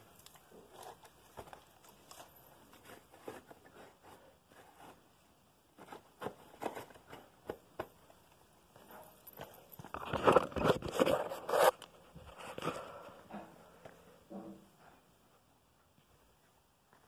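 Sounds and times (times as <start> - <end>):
knocks and scrapes of handling: 0.0 - 15.1.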